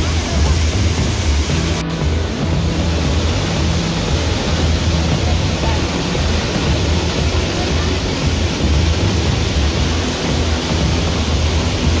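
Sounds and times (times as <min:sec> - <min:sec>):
background music with bass line: 0:00.0 - 0:12.0
waterfall rushing: 0:00.0 - 0:12.0.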